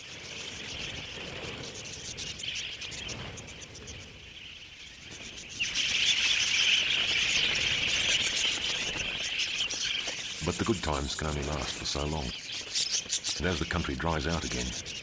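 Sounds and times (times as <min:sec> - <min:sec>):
flock of budgerigars chirping: 0:00.1 - 0:15.0.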